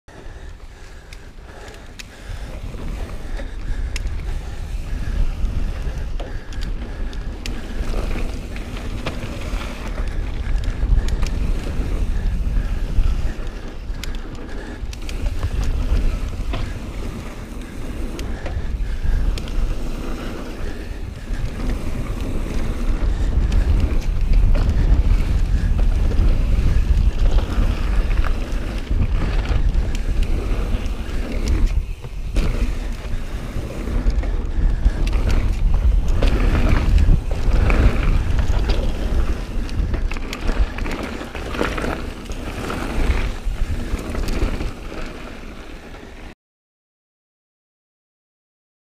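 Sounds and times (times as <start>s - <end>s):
bike clicks and rattles: 0.1s - 46.3s
bike tyres rumbling on dirt: 0.1s - 46.3s
wind buffeting microphone: 0.1s - 46.3s.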